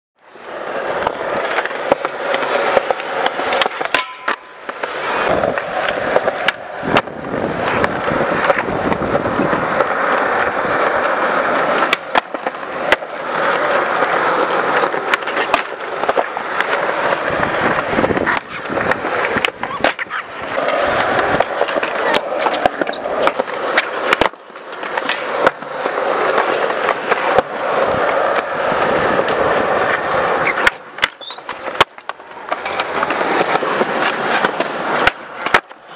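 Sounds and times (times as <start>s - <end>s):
skateboard wheels rolling on concrete: 0.2s - 35.9s
skateboards clacking on ground: 0.2s - 35.9s.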